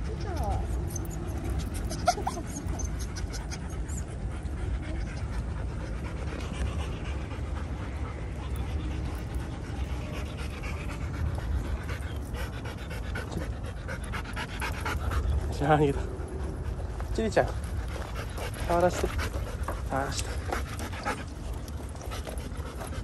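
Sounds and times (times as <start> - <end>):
dogs panting: 0.0 - 23.0
steady low rumble: 0.0 - 23.0.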